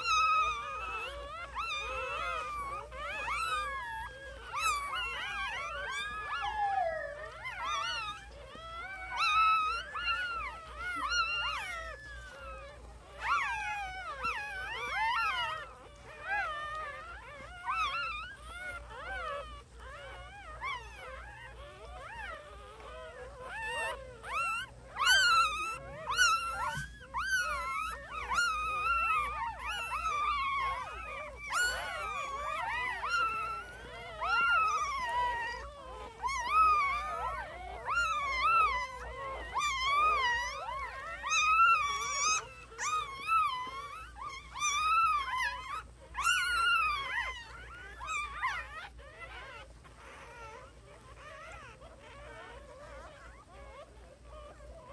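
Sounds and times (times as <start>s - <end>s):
puppies crying and squealing: 0.0s - 54.9s.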